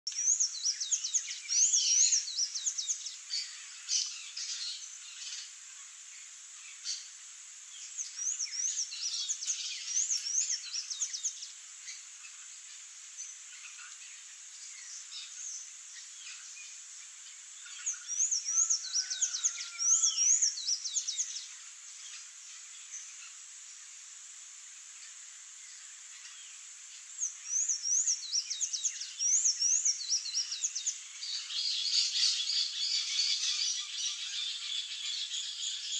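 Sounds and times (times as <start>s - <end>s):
songbirds singing and calling: 0.1s - 24.0s, 24.9s - 35.9s.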